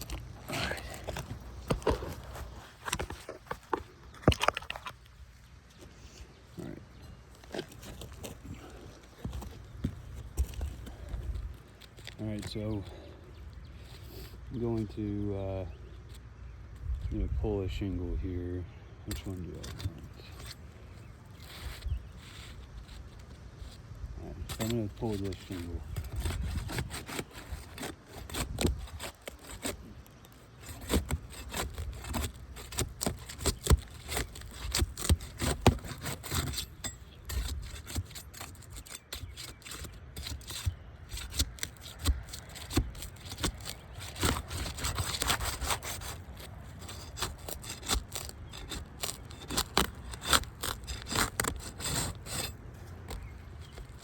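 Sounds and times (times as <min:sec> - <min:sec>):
roof shingle scraping and cracking: 0:00.0 - 0:06.2, 0:06.9 - 0:17.1, 0:19.1 - 0:54.0.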